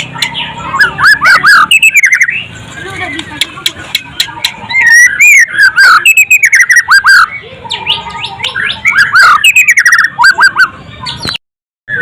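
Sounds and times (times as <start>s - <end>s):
bird singing whistled phrases: 0.1s - 3.2s, 3.9s - 12.0s.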